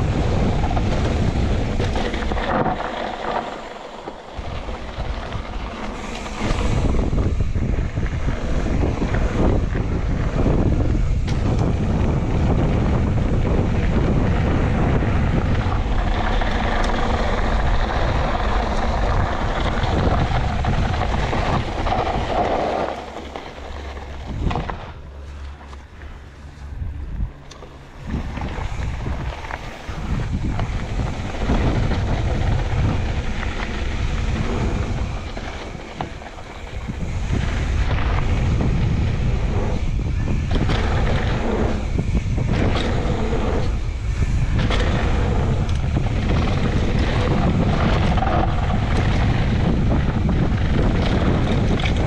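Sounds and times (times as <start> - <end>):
tyres rumbling over dirt: 0.0 - 52.0
wind buffeting microphone: 0.0 - 52.0.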